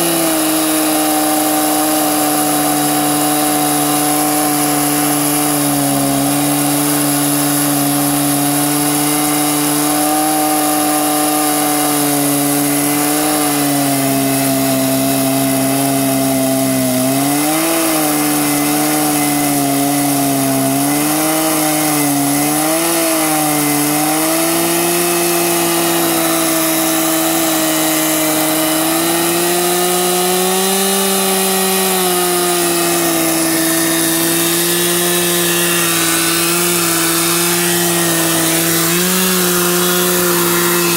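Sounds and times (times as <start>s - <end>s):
chainsaw ripping a log: 0.0s - 40.9s.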